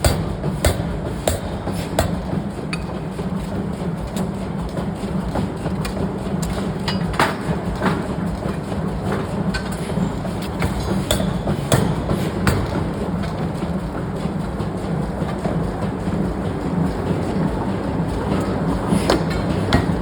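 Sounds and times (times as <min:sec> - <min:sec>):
machinery low hum: 0:00.0 - 0:20.0.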